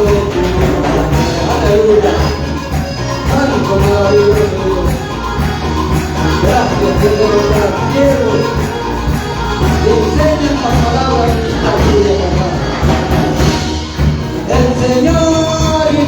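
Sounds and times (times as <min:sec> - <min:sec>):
bass: 0:00.0 - 0:16.0
percussion with steady beat: 0:00.0 - 0:16.0
person singing: 0:00.0 - 0:16.0.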